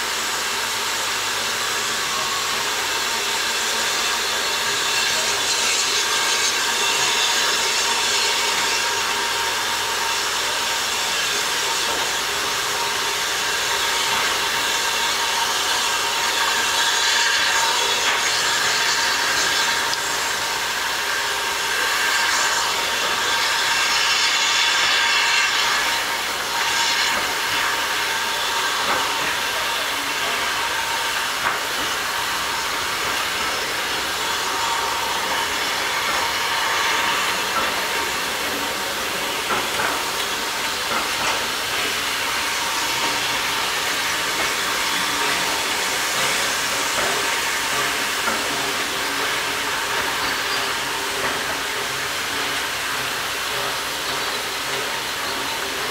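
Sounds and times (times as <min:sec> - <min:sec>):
steam hissing: 0:00.0 - 0:55.9
steam locomotive moving off: 0:00.0 - 0:55.9.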